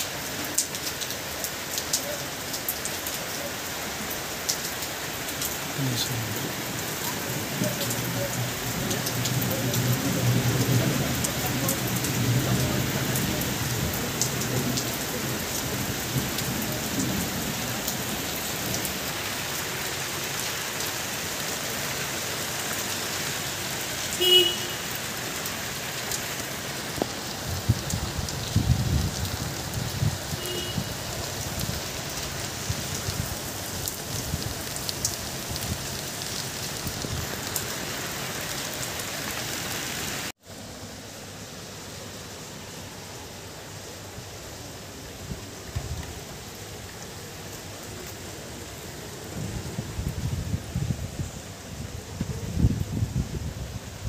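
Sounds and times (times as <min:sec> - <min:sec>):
rain on wet pavement: 0:00.0 - 0:54.0.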